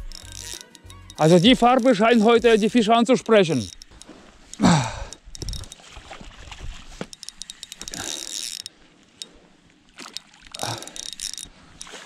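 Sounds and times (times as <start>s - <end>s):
fishing reel clicking: 0.0s - 5.9s, 7.0s - 9.4s, 10.0s - 12.0s.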